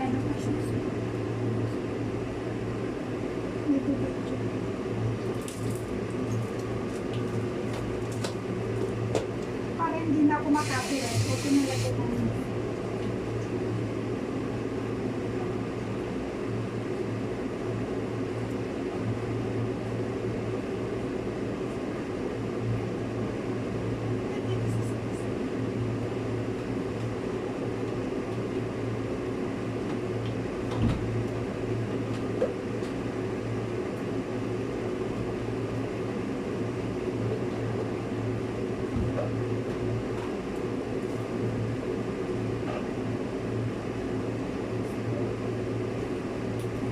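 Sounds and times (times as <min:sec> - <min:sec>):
mechanical hum with hiss: 0:00.0 - 0:46.9.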